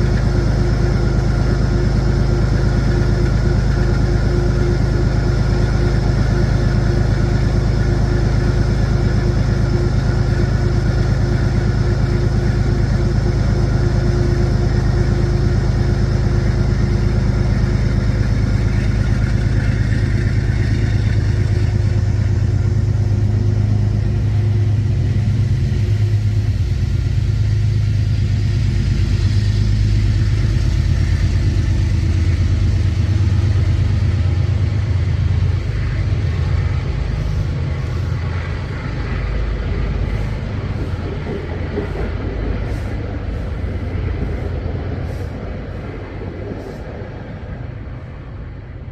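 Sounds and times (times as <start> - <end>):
diesel locomotive engine rumbling: 0.0 - 48.9.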